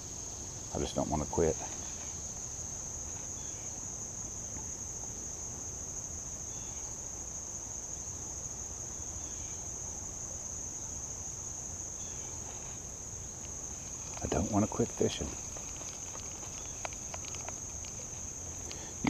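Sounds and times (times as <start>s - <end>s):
high-pitched insect chorus: 0.0s - 19.0s
low background hiss: 0.0s - 19.0s.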